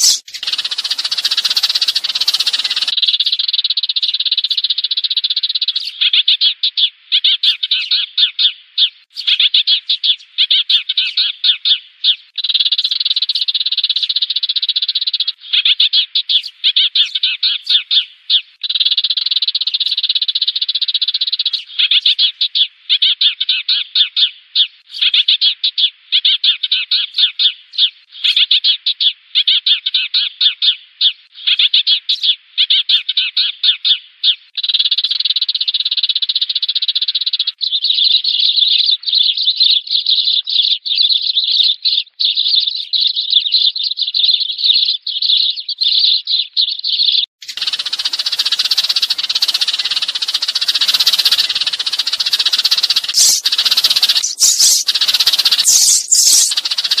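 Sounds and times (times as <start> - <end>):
sparrows chirping: 0.0 - 30.8, 31.4 - 57.0.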